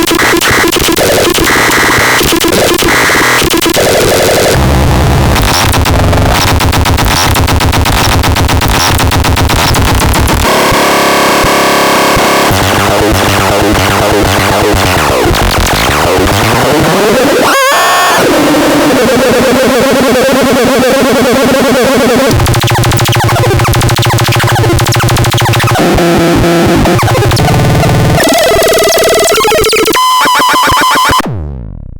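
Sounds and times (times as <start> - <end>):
harsh buzzing synthesizer tones: 0.0 - 31.8.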